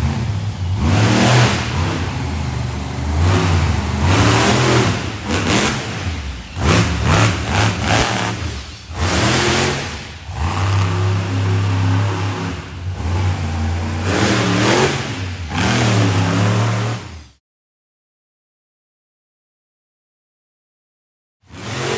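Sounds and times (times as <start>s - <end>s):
monster truck engine revving: 0.0s - 17.4s, 21.5s - 21.9s.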